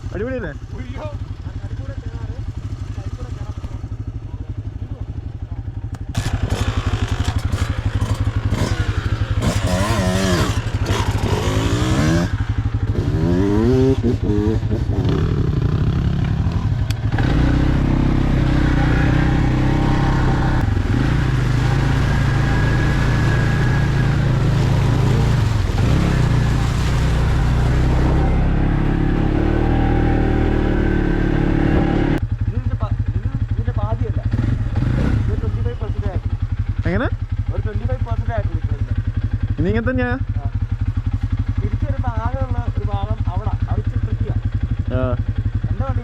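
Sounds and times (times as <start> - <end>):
off-road vehicle engine revving: 5.9 - 32.2, 34.1 - 46.0.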